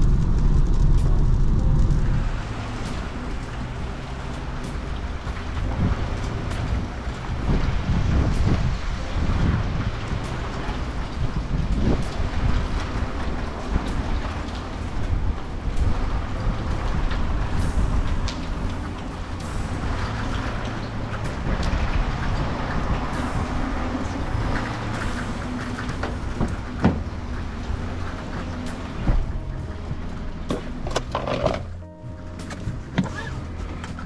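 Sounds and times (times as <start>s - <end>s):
low rumble and hiss outdoors: 0.0s - 34.0s.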